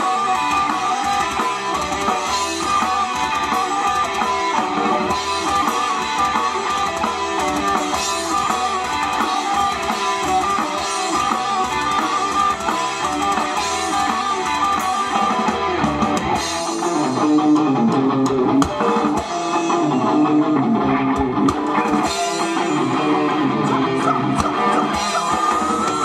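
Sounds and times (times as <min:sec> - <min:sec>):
bass guitar: 0:00.0 - 0:26.0
drum kit: 0:00.0 - 0:26.0
electric guitars: 0:00.0 - 0:26.0.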